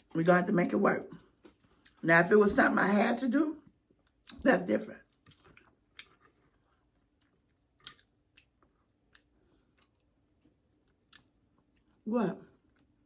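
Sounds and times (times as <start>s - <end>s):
chewing crunchy food: 1.1s - 2.8s, 3.6s - 13.0s.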